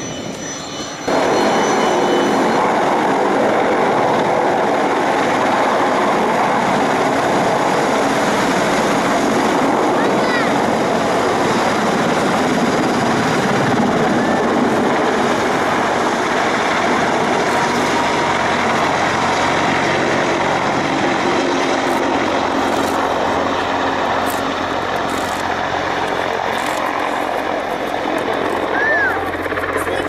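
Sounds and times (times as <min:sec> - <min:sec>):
helicopter running at high power: 0:00.0 - 0:30.0.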